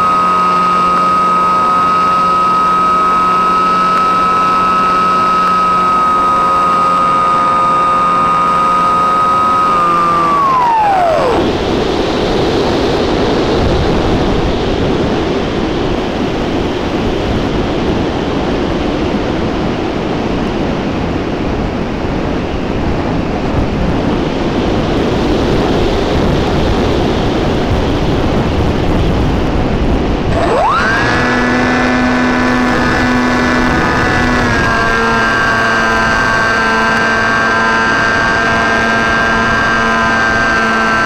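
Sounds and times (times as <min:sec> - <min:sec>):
airflow rushing: 0:00.0 - 0:41.0
model plane motor whine: 0:00.0 - 0:41.0.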